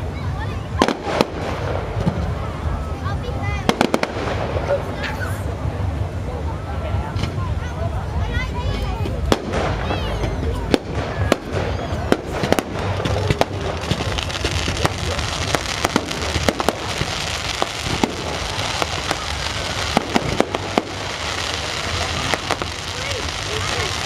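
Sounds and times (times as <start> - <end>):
fireworks bangs and crackling: 0.0 - 7.6, 8.2 - 24.0
background rumble: 0.0 - 24.0.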